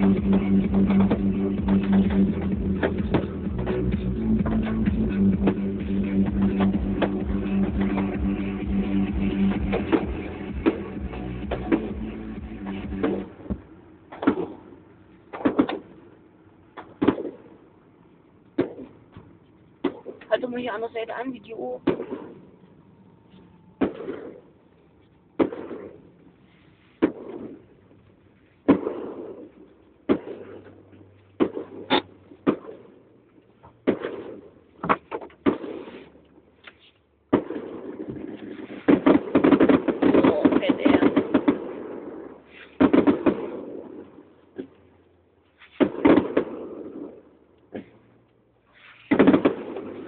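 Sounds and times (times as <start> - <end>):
fireworks bangs with rumbling echo: 0.0 - 17.8, 18.5 - 22.6, 23.8 - 24.6, 25.4 - 27.9, 28.6 - 36.2, 37.3 - 48.1, 48.9 - 50.0.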